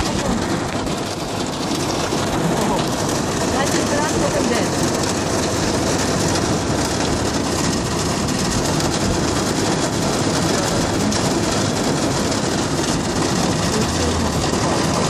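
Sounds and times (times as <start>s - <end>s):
heavy rain on car roof: 0.0s - 15.0s.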